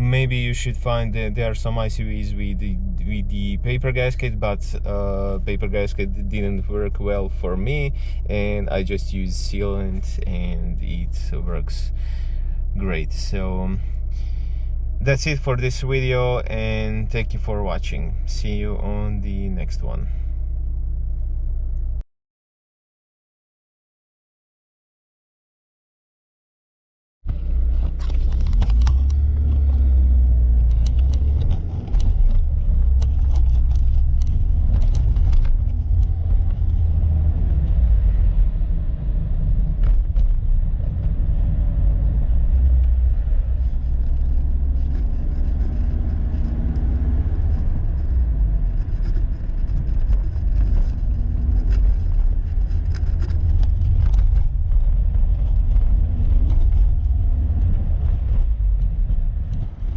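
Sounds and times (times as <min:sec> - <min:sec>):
car engine rumbling: 0:00.0 - 0:22.0, 0:27.3 - 0:59.9.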